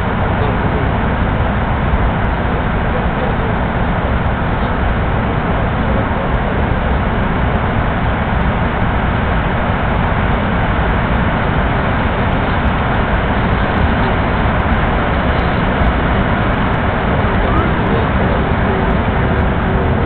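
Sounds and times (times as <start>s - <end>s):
airliner engines in cabin: 0.0s - 20.0s
rushing air: 0.0s - 20.0s.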